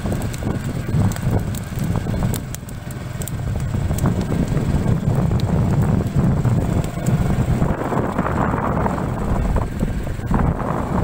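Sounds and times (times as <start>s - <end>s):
burning cane crackling: 0.0s - 11.0s
fire roaring: 0.0s - 11.0s.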